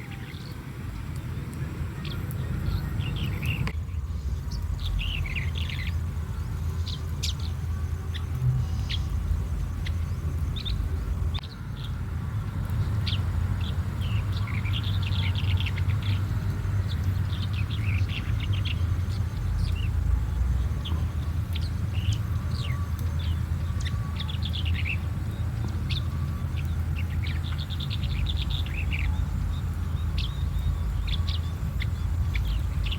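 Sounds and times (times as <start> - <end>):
bird chirping: 0.0 - 32.9
steady low rumble: 0.0 - 32.9.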